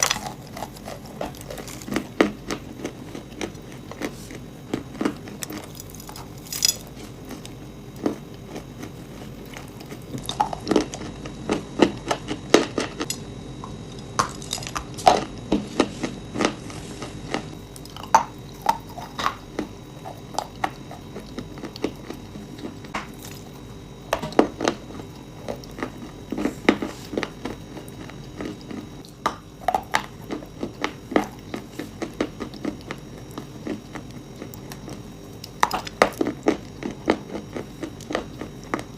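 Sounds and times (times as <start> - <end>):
crunchy food chewing: 0.0 - 13.2, 13.9 - 38.9.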